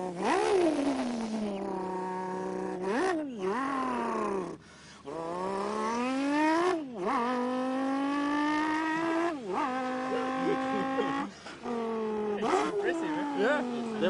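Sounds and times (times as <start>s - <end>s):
person imitating race car engine: 0.0s - 14.0s.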